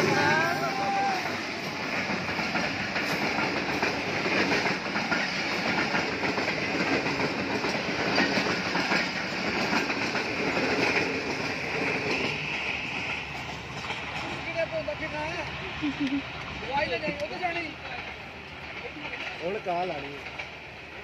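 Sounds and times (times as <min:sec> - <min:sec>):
train wheels clattering over rails: 0:00.0 - 0:21.0.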